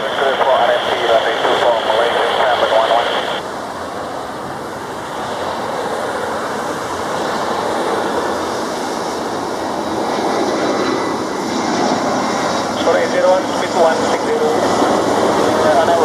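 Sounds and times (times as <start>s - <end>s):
jet engine rushing: 0.0s - 16.0s.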